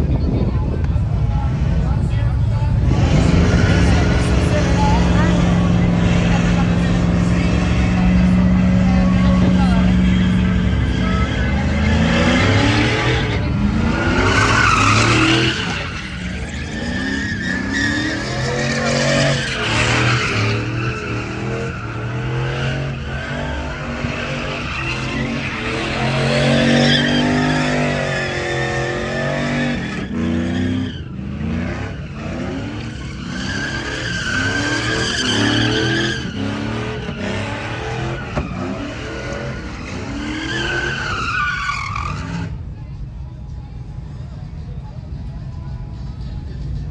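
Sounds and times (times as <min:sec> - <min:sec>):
truck engines revving: 0:00.0 - 0:42.8
tyres squealing: 0:02.8 - 0:42.5.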